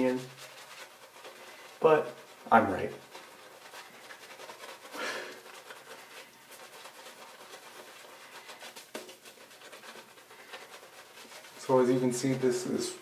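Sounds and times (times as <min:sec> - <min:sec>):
shaving brush swirling lather: 0:00.0 - 0:13.0.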